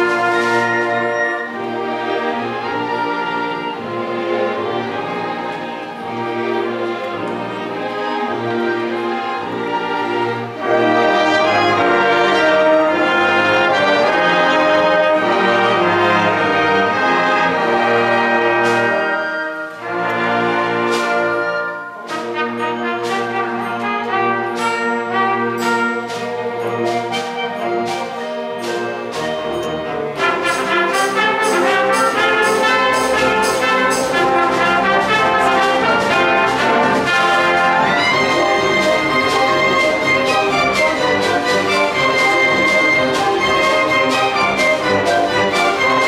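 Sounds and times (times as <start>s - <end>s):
symphony orchestra with brass: 0.0s - 46.0s.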